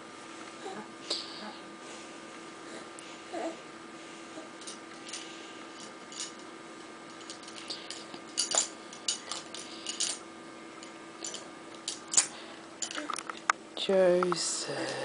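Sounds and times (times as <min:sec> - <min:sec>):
steady faint hum: 0:00.0 - 0:15.0.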